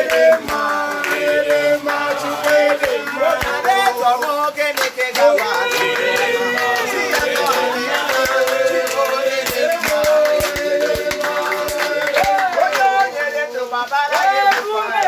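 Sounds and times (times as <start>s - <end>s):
hand claps: 0.0s - 15.0s
men singing together: 0.0s - 15.0s.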